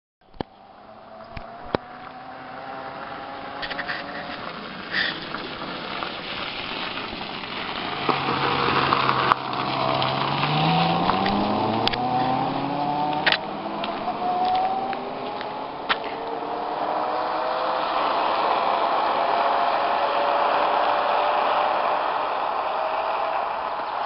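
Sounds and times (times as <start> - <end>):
tyres on gravel: 0.3 - 24.0.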